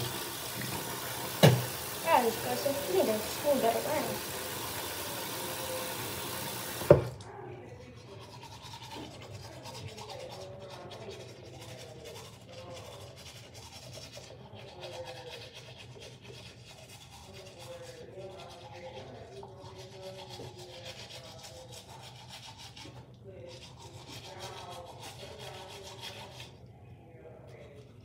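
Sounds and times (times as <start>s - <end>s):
toothbrush scrubbing teeth: 0.0s - 28.0s.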